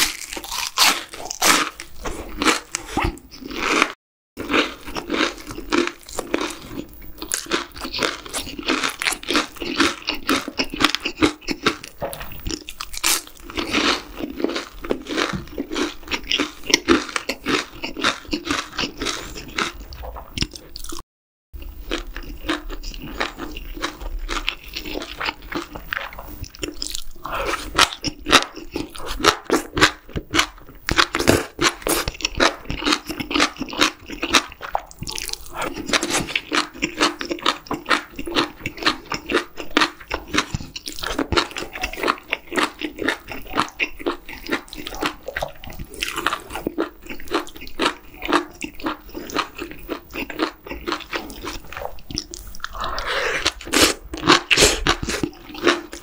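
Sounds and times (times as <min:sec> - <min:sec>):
crunching bites of fried food: 0:00.0 - 0:21.0, 0:21.6 - 0:56.0
wet chewing: 0:00.0 - 0:21.0, 0:21.6 - 0:56.0.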